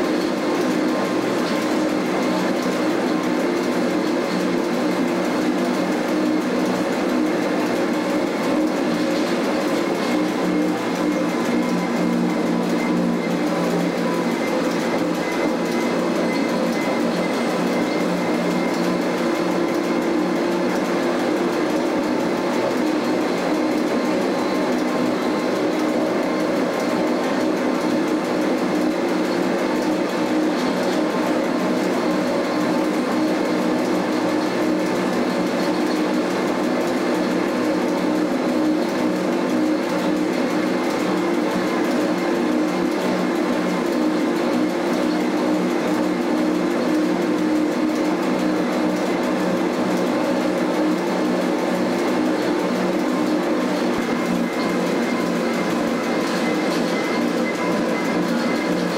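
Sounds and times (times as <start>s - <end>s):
electric train motors droning: 0.0s - 58.9s.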